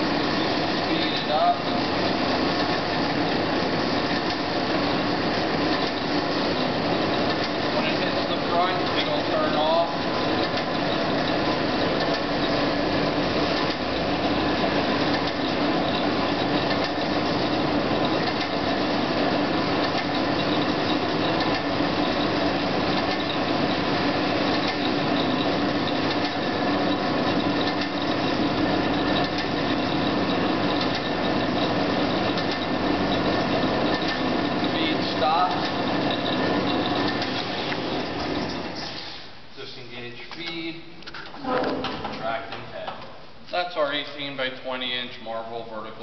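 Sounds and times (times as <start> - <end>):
band saw running: 0.0 - 38.9.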